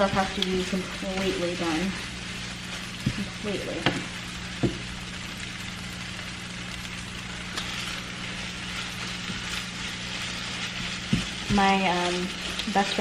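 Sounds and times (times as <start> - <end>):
food sizzling in a pan: 0.0 - 13.0
low even hum: 0.0 - 13.0.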